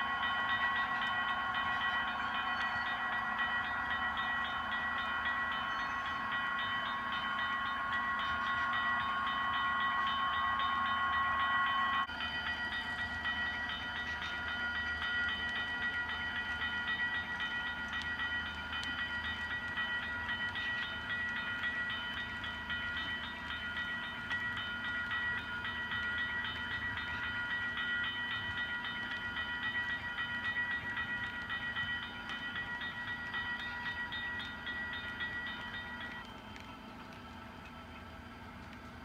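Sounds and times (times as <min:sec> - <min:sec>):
crossing bell ringing: 0:00.0 - 0:38.0
model train wheels on track: 0:00.0 - 0:39.0.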